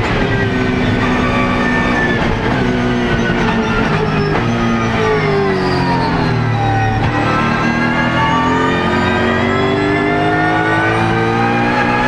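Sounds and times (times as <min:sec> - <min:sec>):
racing engine at high revs: 0:00.0 - 0:12.0.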